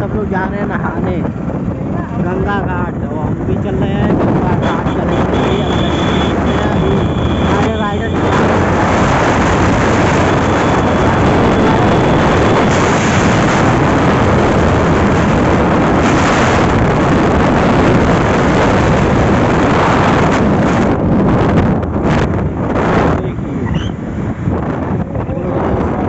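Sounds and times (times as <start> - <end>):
road noise: 0.0 - 26.0
wind rushing over microphone: 0.0 - 26.0
motorcycle engine: 0.8 - 25.1.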